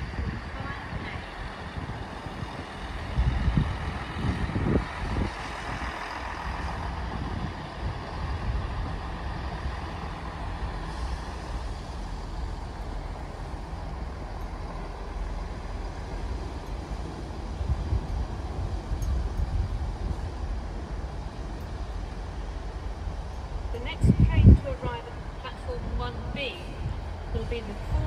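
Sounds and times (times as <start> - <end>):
diesel train engine droning: 0.0 - 28.0.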